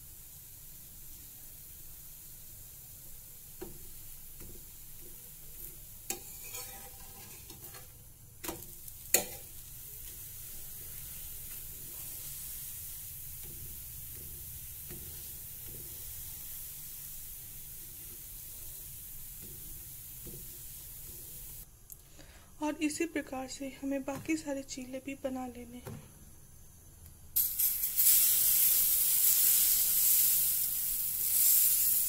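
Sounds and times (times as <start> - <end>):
batter sizzling on a hot pan: 0.0 - 21.7, 27.4 - 32.0.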